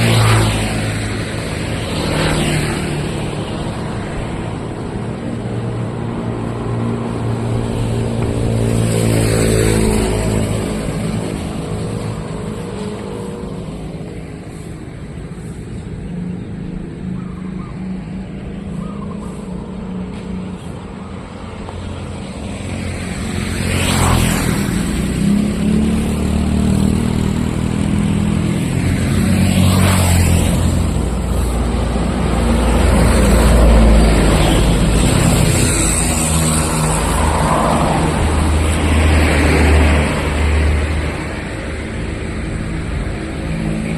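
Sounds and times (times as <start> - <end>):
vehicles driving by: 0.0 - 43.9.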